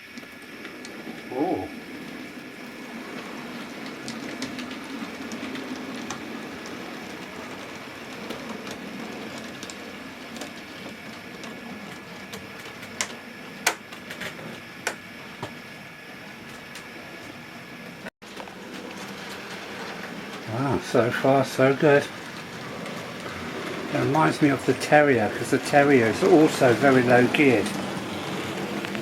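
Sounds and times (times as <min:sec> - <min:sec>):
model train motor hum: 0:00.0 - 0:29.0
wheels clicking over rail joints: 0:00.0 - 0:29.0.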